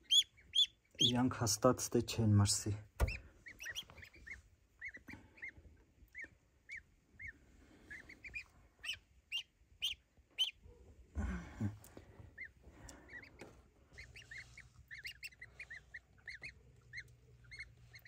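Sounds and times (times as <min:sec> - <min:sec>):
goslings peeping: 0:00.0 - 0:01.8, 0:02.5 - 0:10.7, 0:11.8 - 0:18.0.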